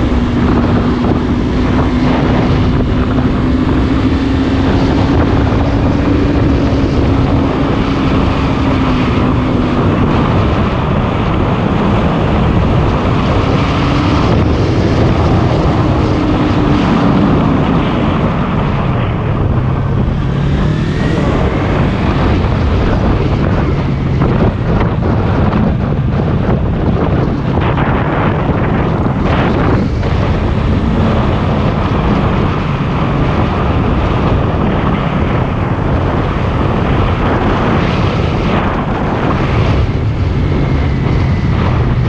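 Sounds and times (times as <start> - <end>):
motorcycle engine running: 0.0 - 42.0
wind noise on microphone: 0.0 - 42.0.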